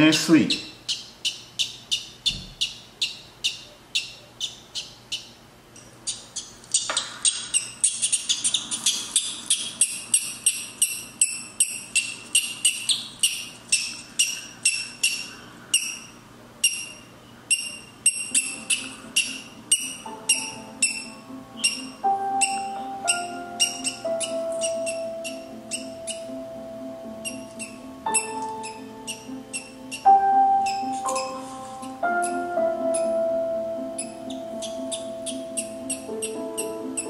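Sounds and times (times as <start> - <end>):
parrot chick peeping: 0.0 - 37.0.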